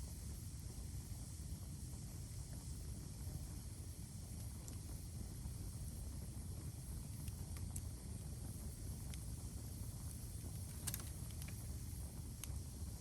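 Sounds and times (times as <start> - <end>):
low outdoor rumble: 0.0 - 13.0
sharp ticks and cracks: 2.3 - 13.0.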